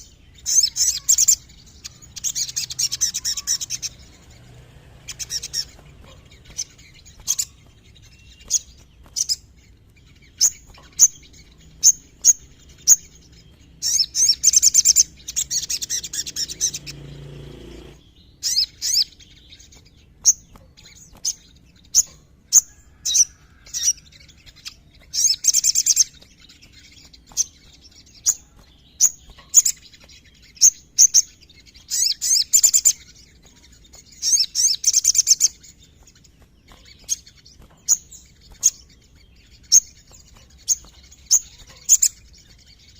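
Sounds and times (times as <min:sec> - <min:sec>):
bird singing high chip notes: 0:00.0 - 0:42.9
rapid bird trills: 0:00.0 - 0:42.9.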